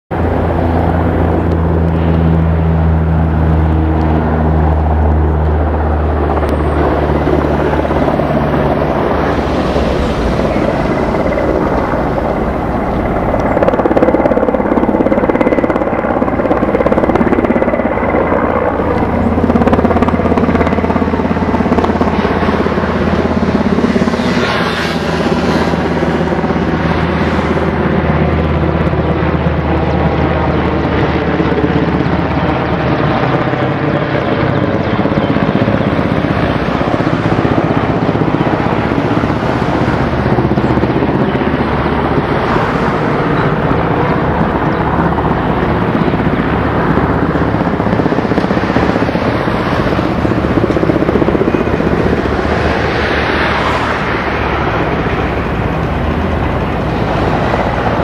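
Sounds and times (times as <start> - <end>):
low engine drone: 0.1 - 58.0
wind-like rushing: 0.1 - 58.0.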